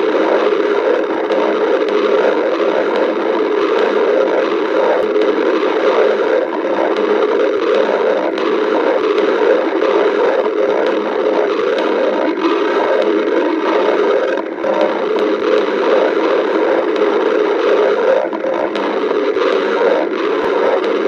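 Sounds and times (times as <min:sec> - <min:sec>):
stomach growling: 0:00.0 - 0:21.0.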